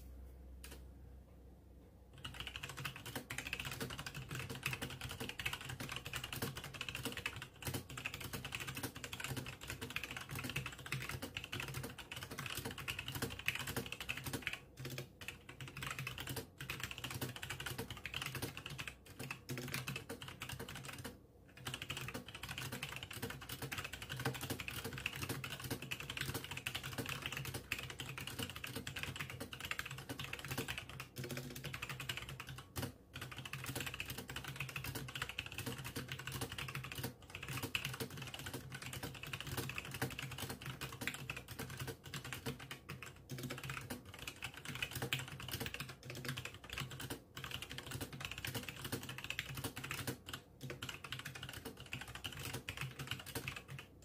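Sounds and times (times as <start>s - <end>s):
mechanical keyboard typing: 2.1s - 54.0s.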